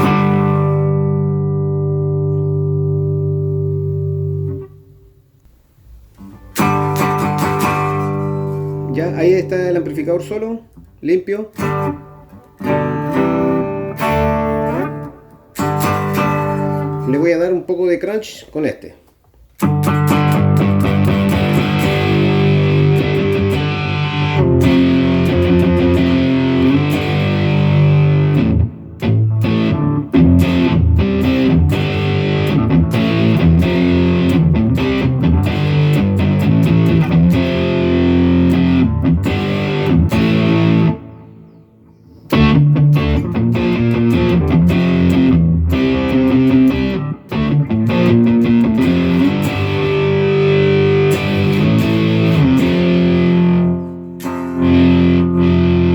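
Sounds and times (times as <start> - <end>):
electric guitar with crunch tone: 0.0 - 17.3, 19.2 - 55.9.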